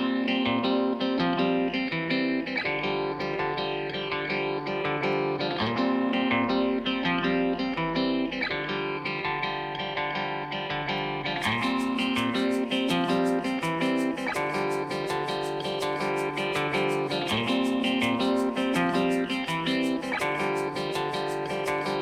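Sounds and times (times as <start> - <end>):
picked guitar music: 0.0 - 22.0.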